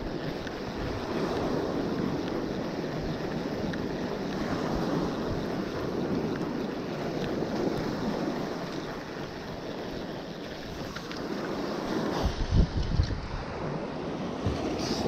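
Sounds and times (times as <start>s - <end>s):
waves washing on beach: 0.0s - 15.0s
wind buffeting microphone: 0.0s - 15.0s.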